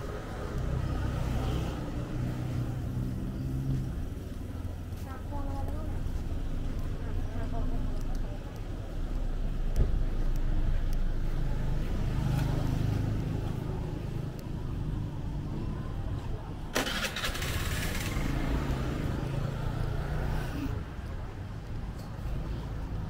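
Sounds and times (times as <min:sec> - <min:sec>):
vehicle engines humming: 0:00.0 - 0:23.0.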